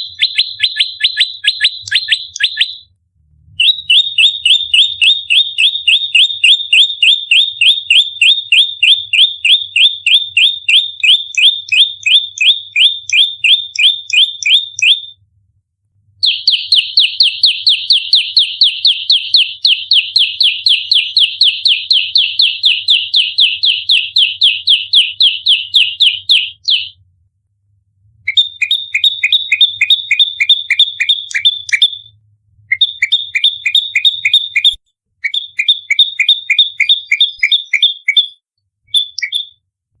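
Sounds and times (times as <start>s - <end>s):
bird sharp high chirps: 0.0s - 2.9s, 3.6s - 15.2s, 16.2s - 27.0s, 28.3s - 32.1s, 32.7s - 39.6s.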